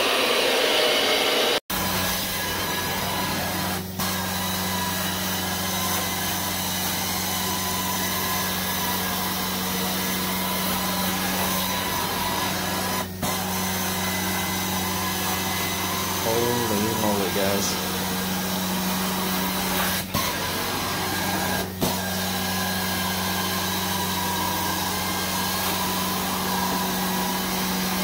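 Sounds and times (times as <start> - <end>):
extraction vacuum running: 0.0 - 28.0.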